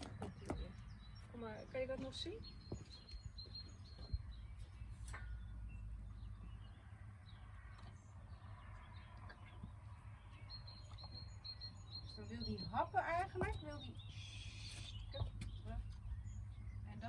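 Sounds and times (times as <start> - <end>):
faint bird chirps: 0.6 - 17.0.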